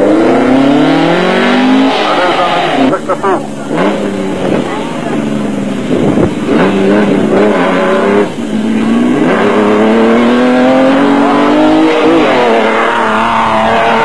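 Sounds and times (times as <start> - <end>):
truck engine accelerating past: 0.0 - 14.0.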